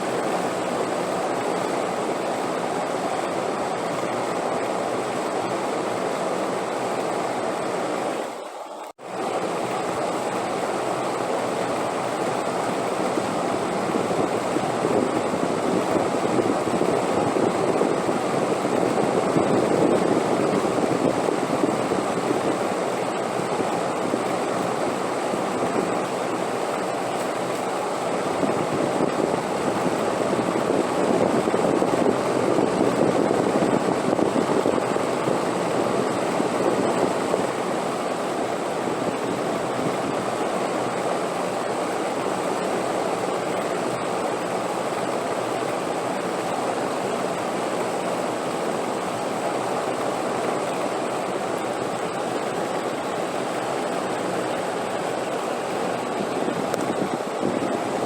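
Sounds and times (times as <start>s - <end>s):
rushing wind: 9.2s - 58.0s.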